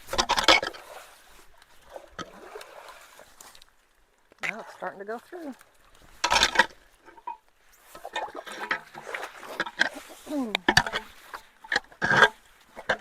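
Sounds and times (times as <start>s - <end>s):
water gurgling and splashing: 0.0s - 13.0s.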